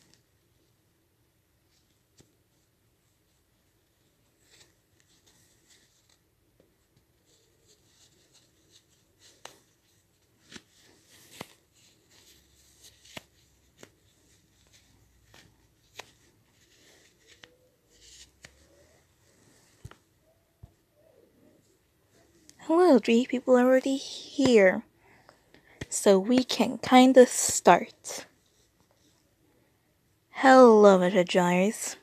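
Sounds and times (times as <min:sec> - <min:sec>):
soft uneven rustling: 0:01.6 - 0:29.4.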